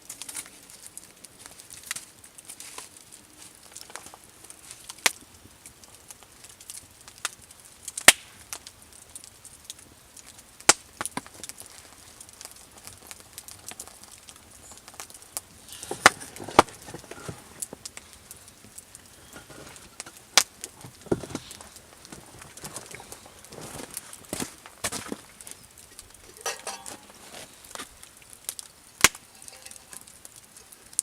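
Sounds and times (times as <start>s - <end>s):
light ticks and crackles: 0.0s - 31.0s.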